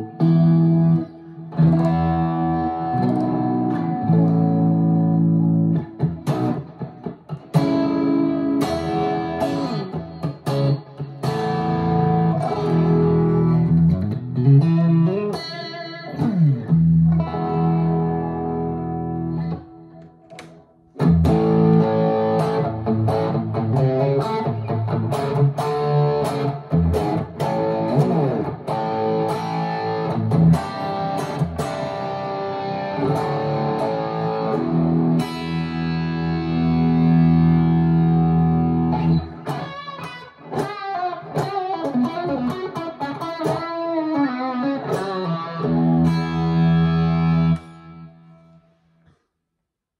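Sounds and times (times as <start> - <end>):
electric guitar through an amp: 0.0 - 48.7.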